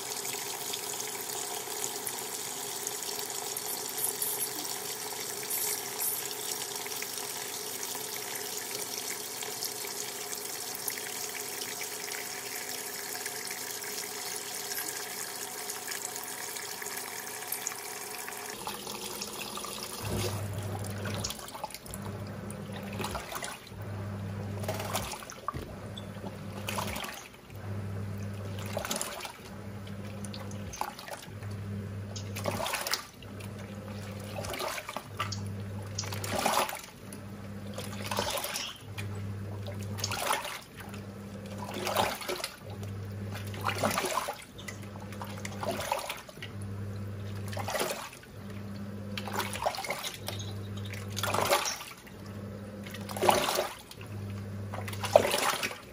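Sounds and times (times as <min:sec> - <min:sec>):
washing machine motor humming: 0:00.0 - 0:55.9
water running into washing machine: 0:00.0 - 0:55.9.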